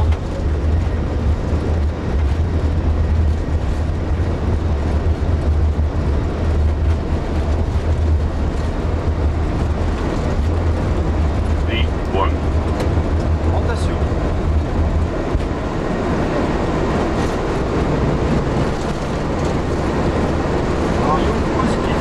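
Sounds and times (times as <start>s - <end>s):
flight deck hum and hiss: 0.0s - 22.0s.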